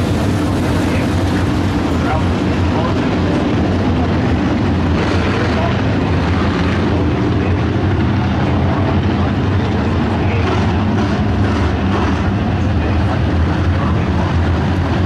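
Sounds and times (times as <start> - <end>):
race car engines drone: 0.0 - 15.0.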